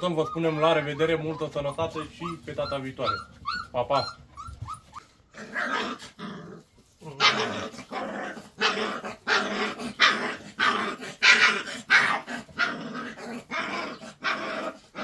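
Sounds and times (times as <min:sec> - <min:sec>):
puppy barks and growls: 0:00.0 - 0:15.0.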